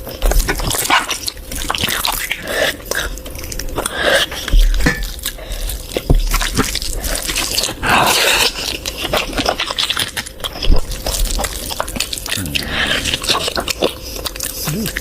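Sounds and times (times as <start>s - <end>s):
wet chewing and lip-smacking: 0.0s - 15.0s.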